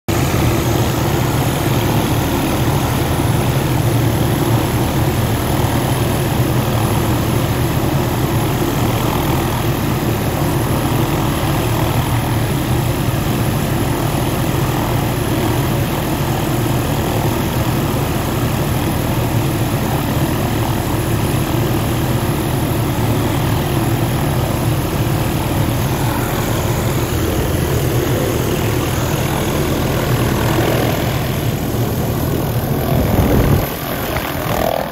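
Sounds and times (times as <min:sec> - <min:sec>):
helicopter engine and rotor running: 0:00.1 - 0:34.9.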